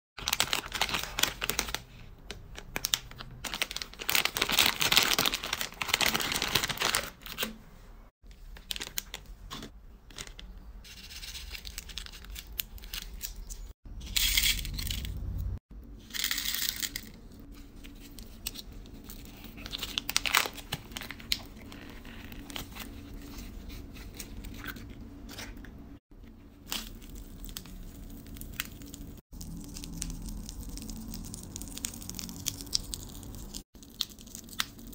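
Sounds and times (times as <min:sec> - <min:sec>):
plastic wrappers crinkling: 0:00.2 - 0:07.5, 0:08.3 - 0:09.2, 0:10.1 - 0:13.7, 0:16.2 - 0:24.9, 0:26.6 - 0:34.9.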